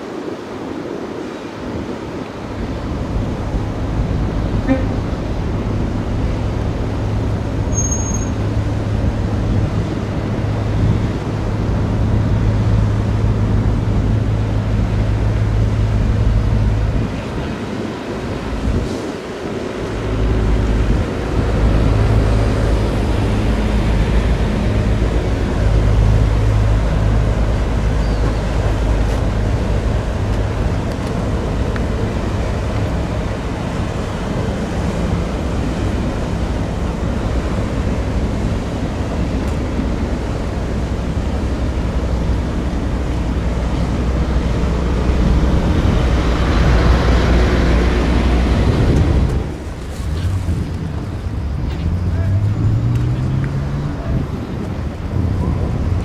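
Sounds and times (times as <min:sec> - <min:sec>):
boat engines droning: 0:00.0 - 0:56.0
rush of boat wake: 0:00.0 - 0:56.0.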